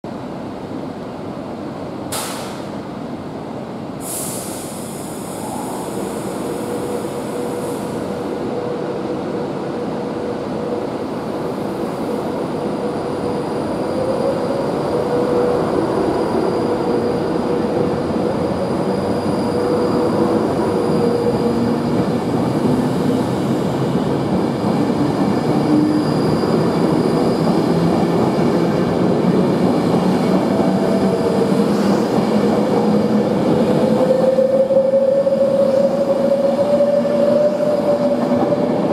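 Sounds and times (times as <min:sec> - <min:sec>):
train wheel and rail noise: 0:00.0 - 0:38.9.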